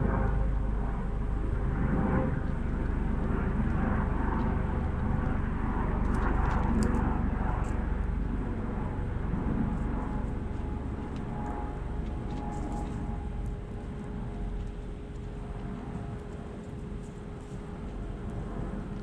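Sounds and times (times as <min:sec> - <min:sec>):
distant engine rumble: 0:00.0 - 0:19.0.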